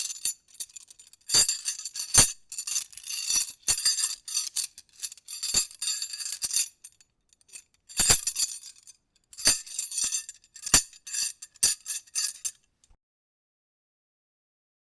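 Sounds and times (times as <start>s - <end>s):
chain links jangling: 0.0s - 12.6s.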